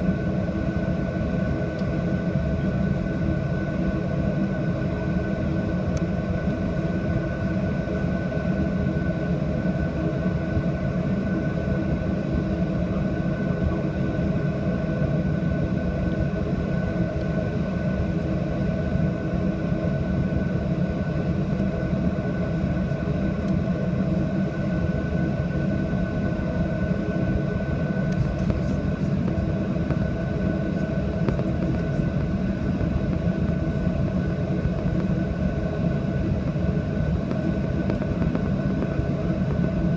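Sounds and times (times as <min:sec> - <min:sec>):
airplane cabin engine rumble: 0:00.0 - 0:39.9
engine whine: 0:00.0 - 0:39.9.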